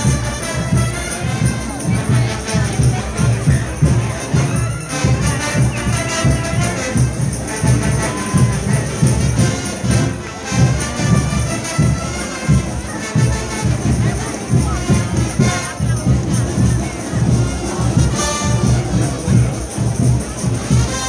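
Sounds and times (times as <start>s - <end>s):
brass band playing: 0.0s - 21.0s
steady drum beat: 0.0s - 21.0s.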